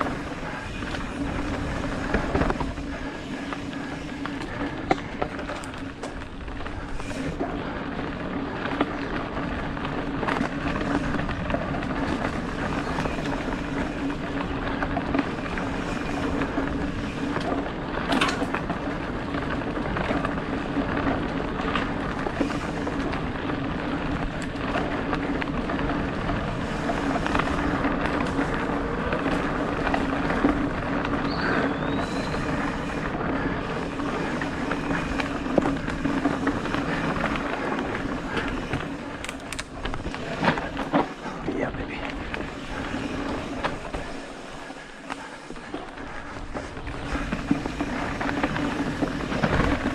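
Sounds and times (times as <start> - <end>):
bike rattling over bumps: 0.0 - 49.9
bike tyre and wind noise: 0.0 - 49.9.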